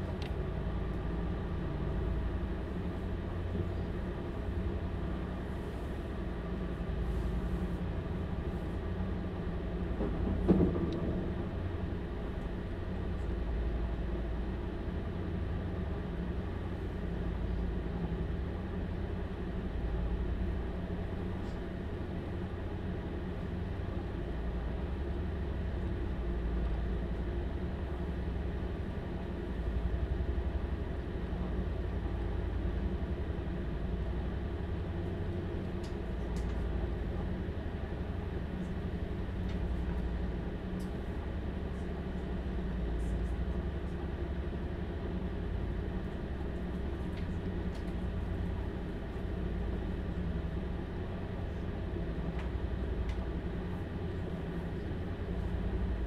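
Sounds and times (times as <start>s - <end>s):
train diesel engine drone: 0.0s - 56.0s.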